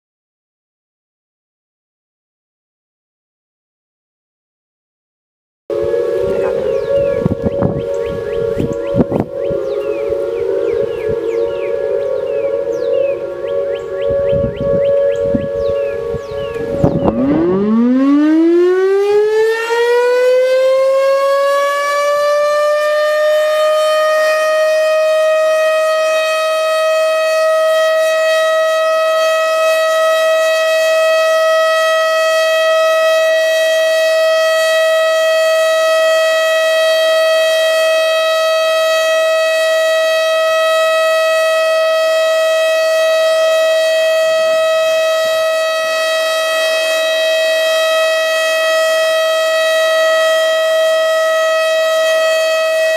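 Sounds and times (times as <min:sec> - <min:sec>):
warning siren high tone: 0:05.7 - 0:52.9.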